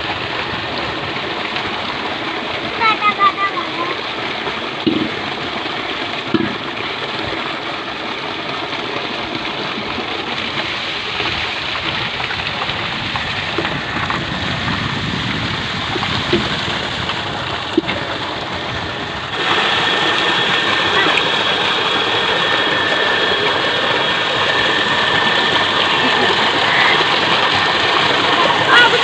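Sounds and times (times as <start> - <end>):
water pouring into a tank: 0.0 - 29.0.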